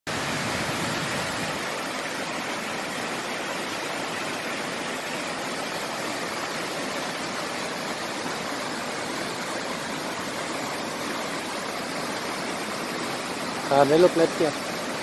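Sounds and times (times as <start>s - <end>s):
waterfall cascading over rocks: 0.1s - 15.0s.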